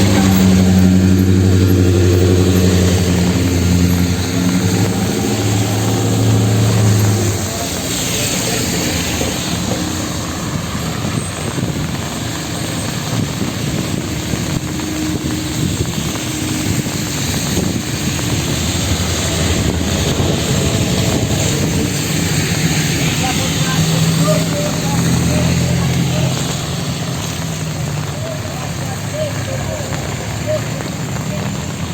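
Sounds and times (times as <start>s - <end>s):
city traffic on wet road: 0.0s - 31.9s.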